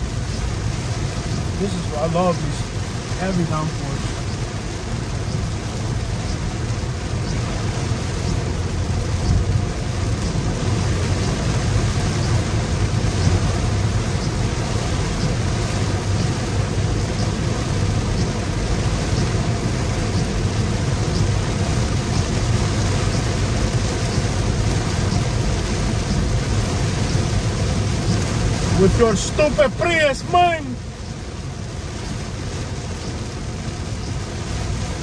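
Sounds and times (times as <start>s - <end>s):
heavy rain beating on a car: 0.0s - 35.0s
road and engine rumble: 0.0s - 35.0s.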